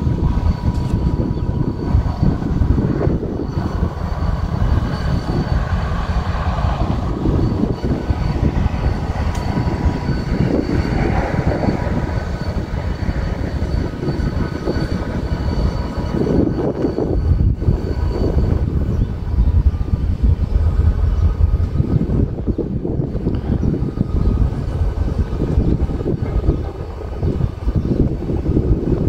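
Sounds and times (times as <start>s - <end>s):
diesel locomotive idling: 0.0s - 29.0s
thin steady whine: 0.0s - 29.0s.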